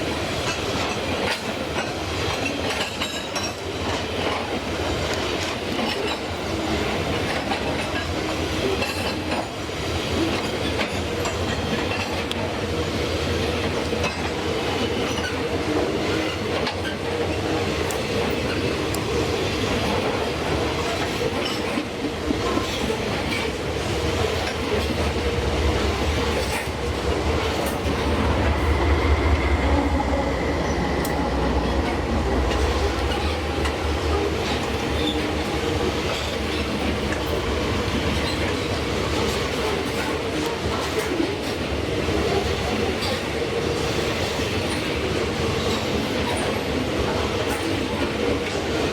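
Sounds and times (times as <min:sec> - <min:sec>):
freight train rumbling: 0:00.0 - 0:48.9.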